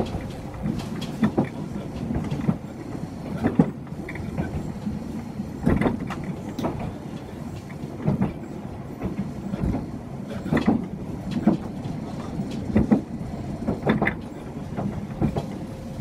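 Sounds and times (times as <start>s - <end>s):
wheel clacks over rail joints: 0.0s - 5.0s, 5.6s - 15.7s
train rumbling from inside: 0.0s - 16.0s.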